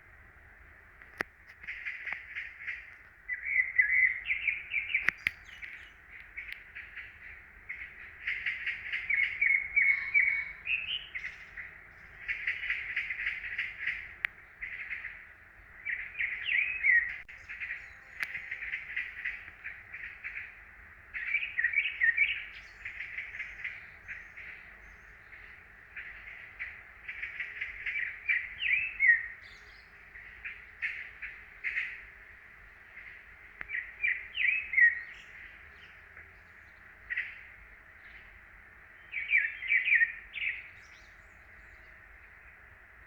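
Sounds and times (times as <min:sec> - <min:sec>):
songbirds singing: 0:00.0 - 0:43.0.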